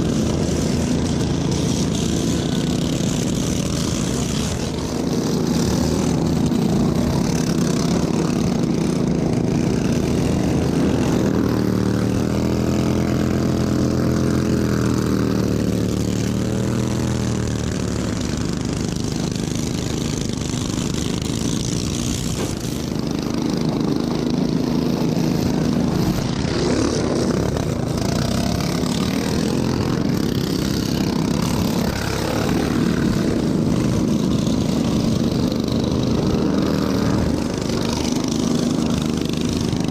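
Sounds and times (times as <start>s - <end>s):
lawn tractor engine running hard: 0.0s - 39.9s.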